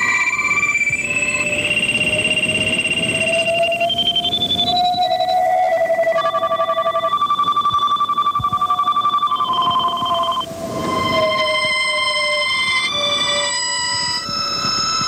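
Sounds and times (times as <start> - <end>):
low gliding synth tone: 0.0 - 15.0.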